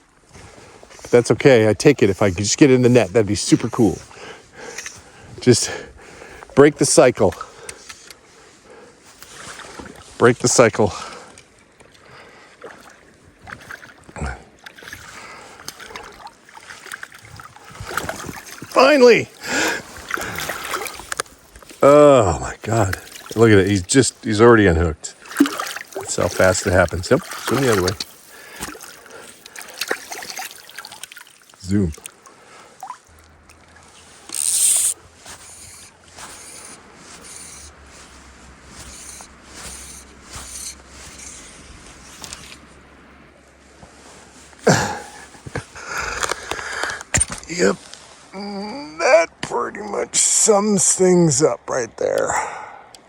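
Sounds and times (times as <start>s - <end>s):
water sloshing and splashing: 0.0s - 21.8s, 22.6s - 24.3s, 25.1s - 48.3s.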